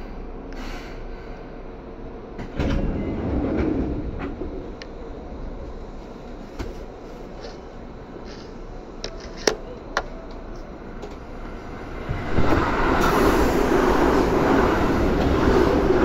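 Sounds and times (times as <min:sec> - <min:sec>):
train wheels rushing on rail: 0:02.2 - 0:16.0.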